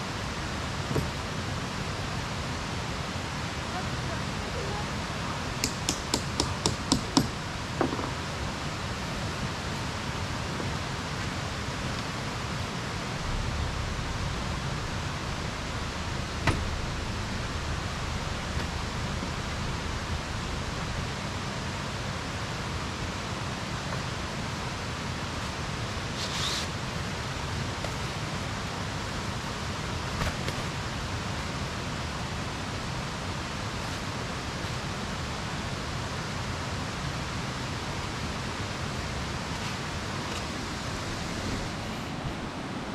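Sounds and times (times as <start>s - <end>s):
steady rushing noise: 7.4s - 42.9s.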